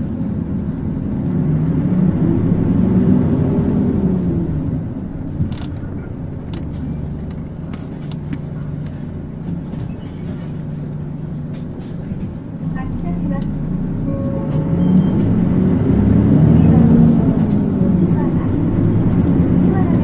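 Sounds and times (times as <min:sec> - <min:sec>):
bus diesel engine whining: 0:00.0 - 0:20.0.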